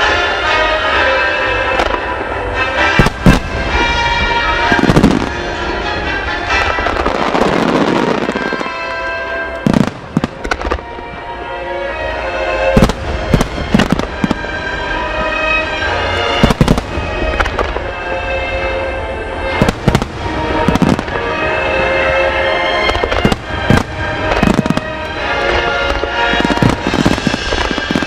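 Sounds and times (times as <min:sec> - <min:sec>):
music: 0:00.0 - 0:28.0
fireworks bursting: 0:00.8 - 0:11.3, 0:12.2 - 0:28.0.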